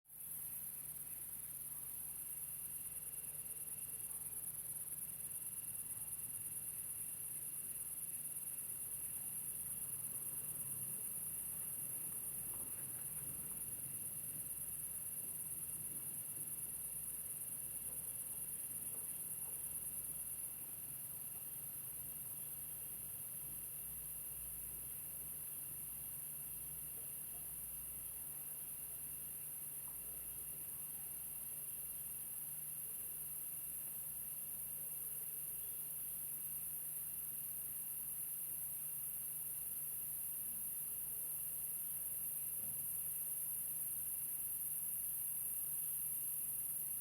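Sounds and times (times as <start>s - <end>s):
lower insect trill: 0.1s - 47.0s
high-pitched insect chorus: 0.2s - 47.0s.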